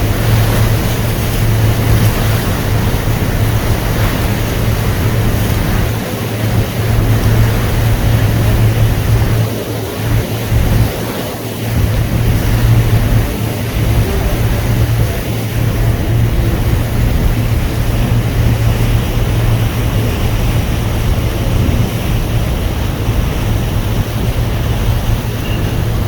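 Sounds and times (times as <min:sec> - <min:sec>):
boat engine humming: 0:00.0 - 0:26.0
water rushing: 0:00.0 - 0:26.0
wind noise on microphone: 0:00.0 - 0:26.0.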